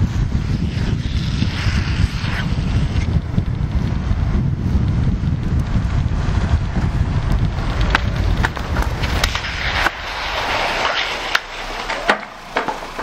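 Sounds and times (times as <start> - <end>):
wind rushing over microphone: 0.0 - 12.0
wheels rolling on asphalt: 0.0 - 13.0.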